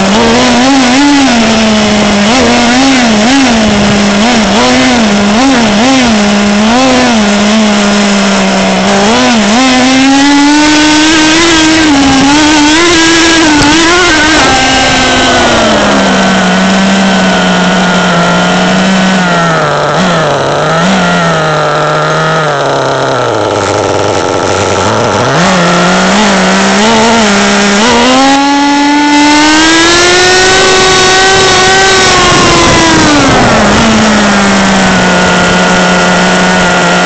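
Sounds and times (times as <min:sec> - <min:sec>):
toy truck motor revving: 0:00.0 - 0:37.0.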